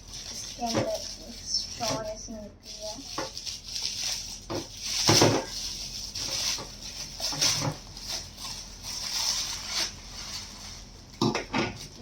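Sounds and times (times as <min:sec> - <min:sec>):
packaging rustling: 0:00.0 - 0:11.2.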